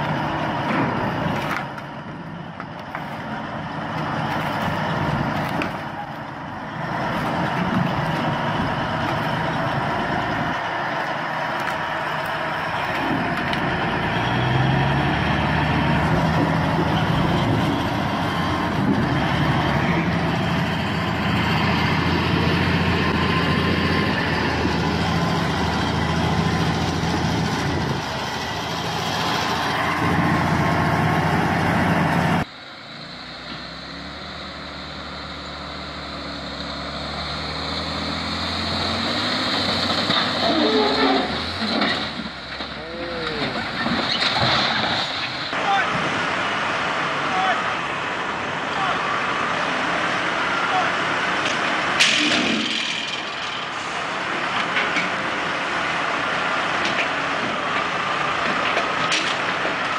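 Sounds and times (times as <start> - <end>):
diesel engine working hard: 0.0 - 59.9
truck engine: 0.0 - 59.9.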